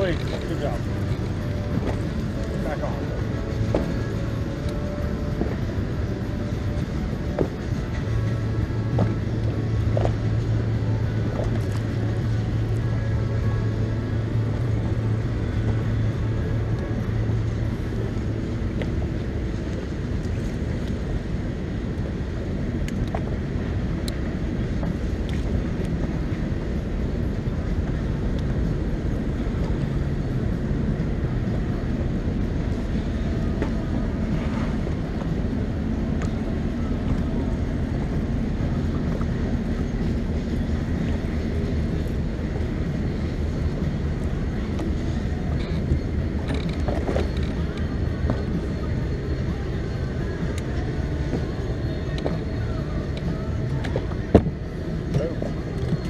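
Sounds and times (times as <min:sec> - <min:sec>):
boat motor humming: 0:00.0 - 0:56.0
water noise: 0:00.0 - 0:56.0
wind: 0:00.0 - 0:56.0.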